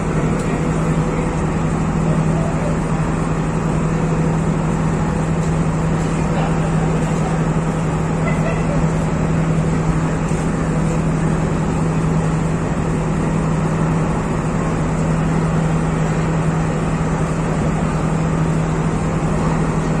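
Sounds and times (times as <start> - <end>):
train diesel engine drone: 0.0 - 20.0.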